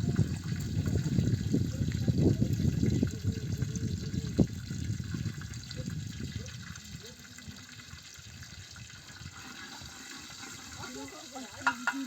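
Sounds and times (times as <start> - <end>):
water pouring and gurgling: 0.0 - 12.0.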